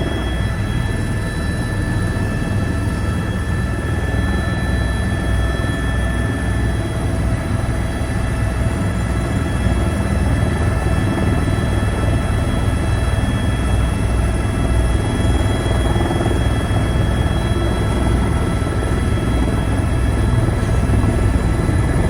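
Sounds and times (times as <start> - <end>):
helicopter rotor and engine drone: 0.0 - 22.0.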